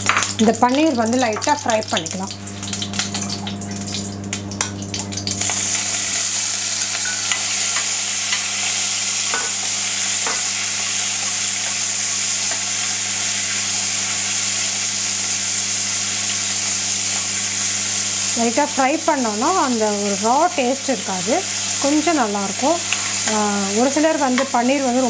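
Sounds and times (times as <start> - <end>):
cheese cubes sizzling in oil: 0.0 - 25.0.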